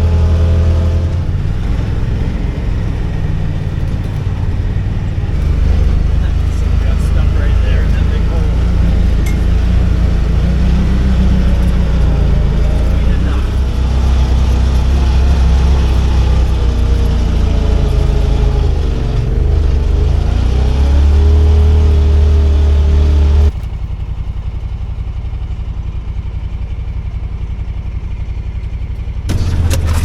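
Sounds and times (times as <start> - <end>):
utility vehicle engine running: 0.0 - 30.0.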